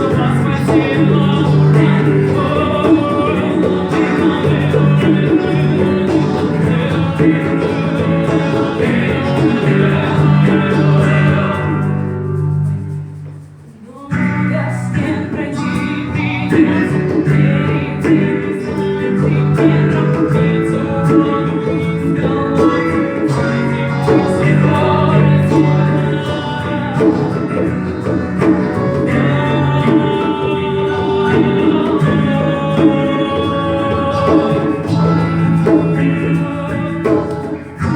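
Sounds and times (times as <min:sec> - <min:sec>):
person singing: 0:00.0 - 0:13.0, 0:13.7 - 0:37.9
guitar chords: 0:00.0 - 0:37.9
hand percussion and shaker: 0:00.0 - 0:37.9.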